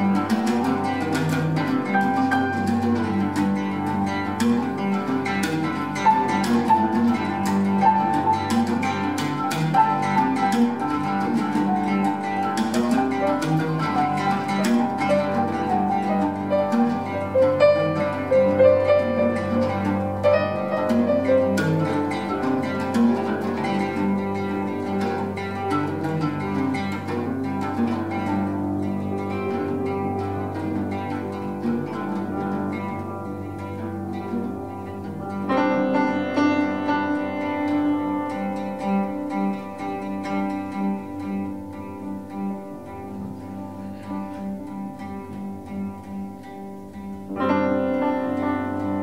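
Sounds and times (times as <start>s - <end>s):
oud plucked in quick runs: 0.0s - 46.0s
piano playing: 0.0s - 49.0s.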